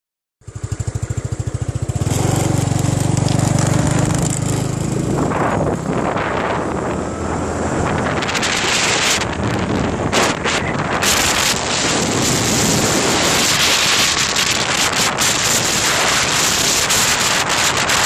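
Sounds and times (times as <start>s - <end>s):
small motorbike engine: 0.4s - 18.0s
wind on microphone: 1.8s - 18.0s.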